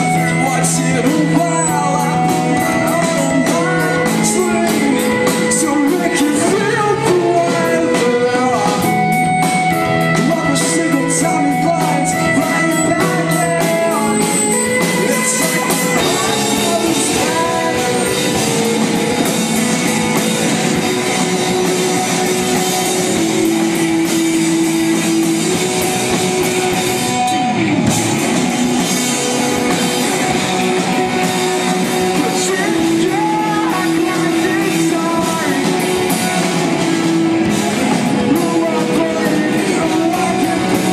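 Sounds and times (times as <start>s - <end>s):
drum kit: 0.0s - 40.9s
guitar: 0.0s - 40.9s
person singing: 0.0s - 40.9s.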